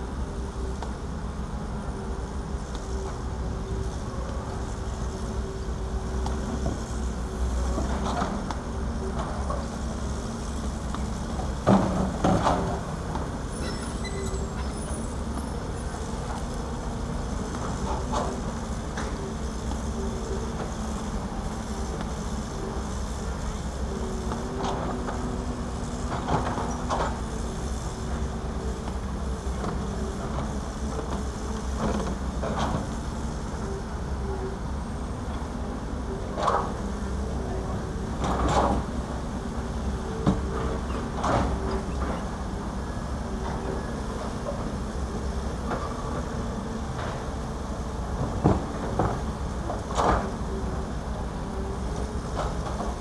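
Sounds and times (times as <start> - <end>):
excavator diesel drone: 0.0 - 53.0.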